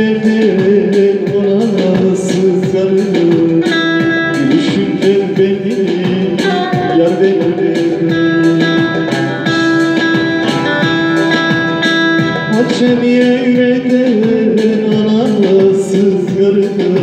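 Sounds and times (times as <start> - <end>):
electric lute fast folk melody: 0.0 - 17.0.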